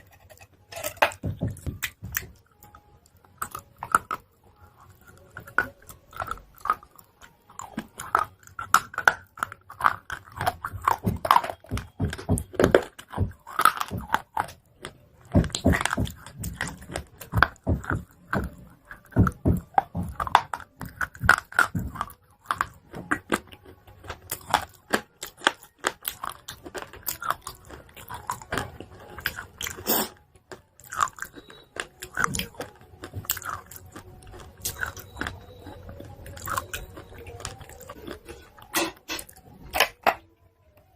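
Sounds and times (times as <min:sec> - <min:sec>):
chalk being bitten and chewed: 0:00.0 - 0:40.1.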